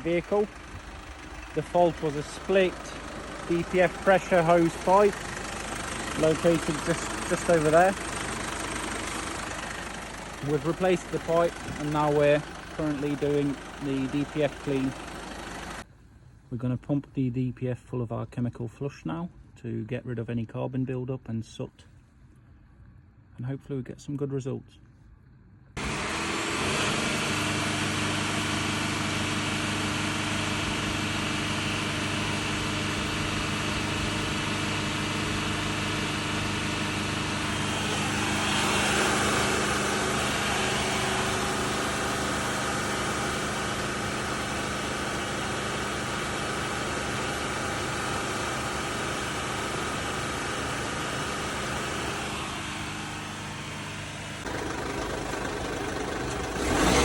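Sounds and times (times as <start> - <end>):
diesel engine idling: 0.0 - 15.9, 25.8 - 57.0.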